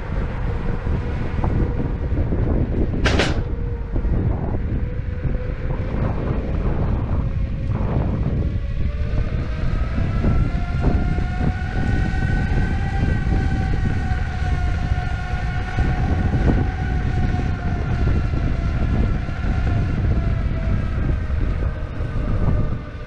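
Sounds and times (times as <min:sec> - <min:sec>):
heavy wind: 0:00.0 - 0:23.0
wheel rumble: 0:00.0 - 0:23.0.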